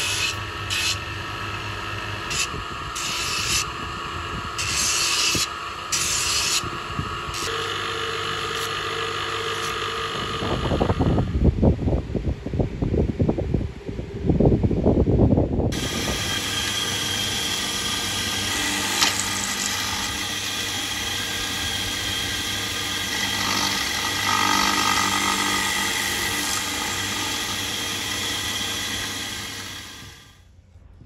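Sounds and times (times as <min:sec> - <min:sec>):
drill press boring into wood: 0:00.0 - 0:11.1, 0:15.7 - 0:30.4.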